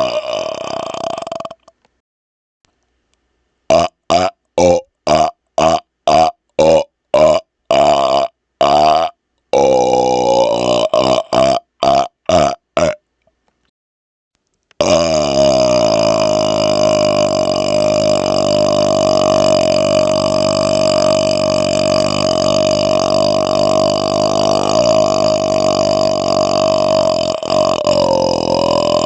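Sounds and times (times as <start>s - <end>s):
man belching: 0.0s - 1.7s, 3.7s - 13.0s, 14.8s - 29.0s.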